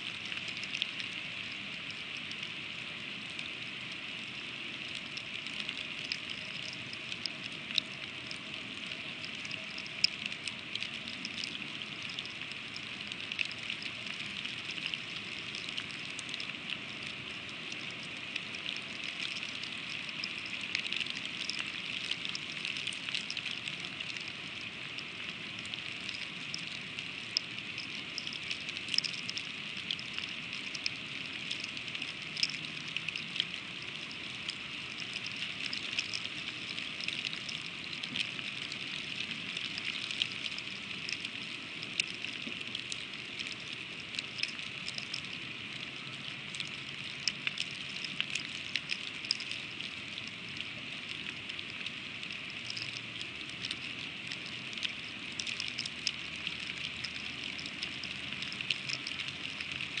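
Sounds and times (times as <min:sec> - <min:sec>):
freezing rain pattering: 0:00.0 - 1:00.0.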